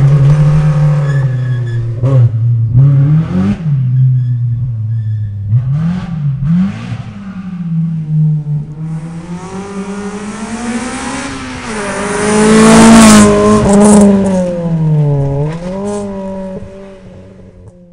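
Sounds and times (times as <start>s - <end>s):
rally car engine revving: 0.0s - 17.9s.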